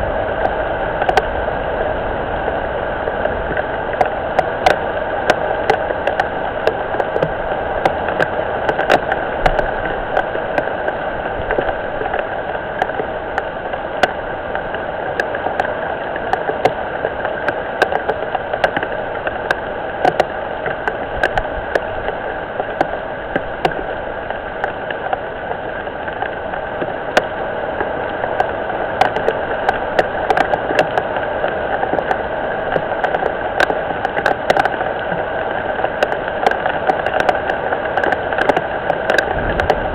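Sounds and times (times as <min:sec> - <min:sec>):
rain falling on pond: 0:00.0 - 0:39.9
water drips ticking: 0:00.4 - 0:01.3, 0:03.0 - 0:39.9.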